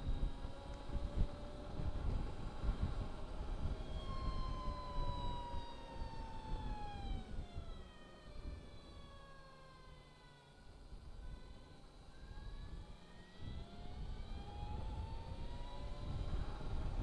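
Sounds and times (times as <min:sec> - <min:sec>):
wind rumble on microphone: 0:00.0 - 0:09.1, 0:10.7 - 0:17.0
electric motorcycle whine: 0:00.0 - 0:17.0.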